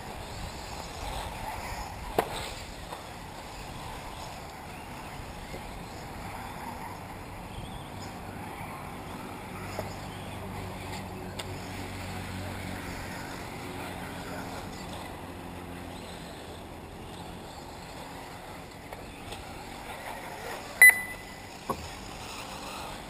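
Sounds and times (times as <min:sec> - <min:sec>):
rc buggy motors and tyres: 0:00.0 - 0:23.0.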